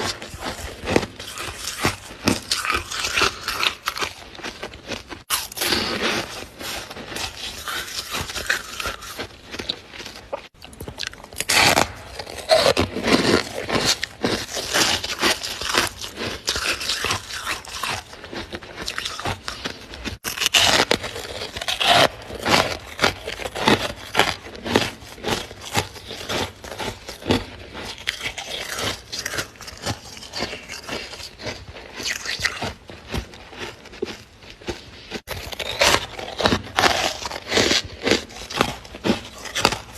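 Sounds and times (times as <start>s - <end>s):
frost scraping and crunching: 0.0s - 39.9s.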